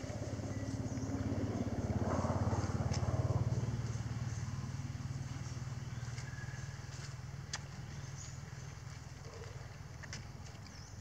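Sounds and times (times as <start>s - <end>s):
motor vehicle passing by: 0.0s - 9.8s.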